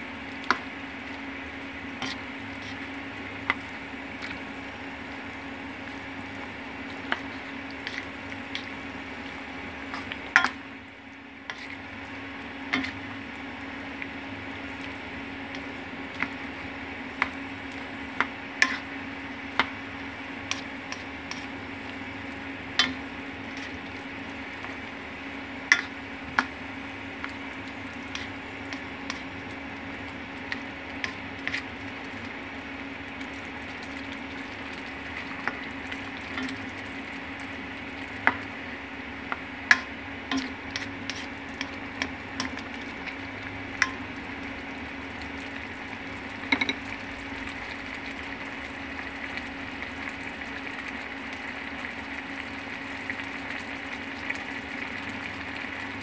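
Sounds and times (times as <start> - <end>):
steady hum: 0.0 - 47.5
cooking noise: 0.0 - 56.0.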